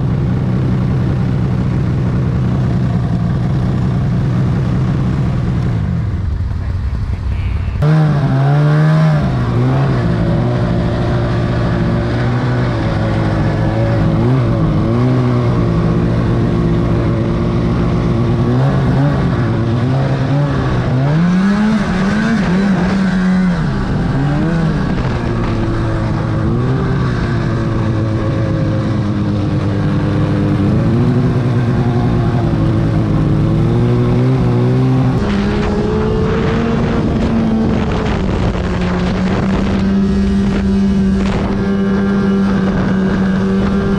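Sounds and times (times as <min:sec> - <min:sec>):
snowmobile engine revving: 0:00.0 - 0:43.9.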